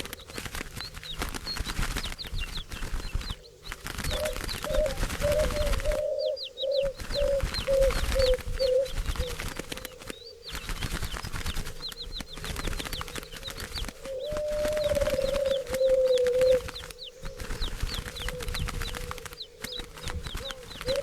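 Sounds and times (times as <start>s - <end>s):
small birds chirping: 0.0s - 21.0s
turtle doves purring: 0.0s - 21.0s
wings flapping: 0.0s - 21.0s.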